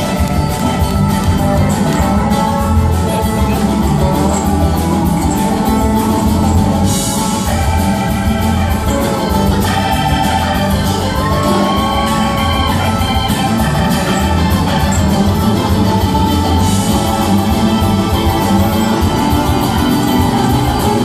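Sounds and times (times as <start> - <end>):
acoustic guitars: 0.0 - 21.0
drum kit beat: 0.0 - 21.0
electric bass: 0.0 - 21.0
keyboard: 0.0 - 21.0.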